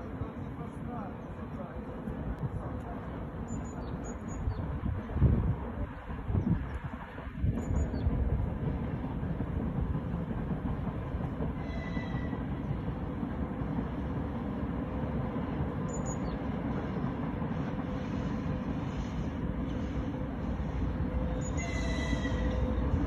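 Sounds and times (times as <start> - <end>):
freight train rumbling: 0.0 - 23.0.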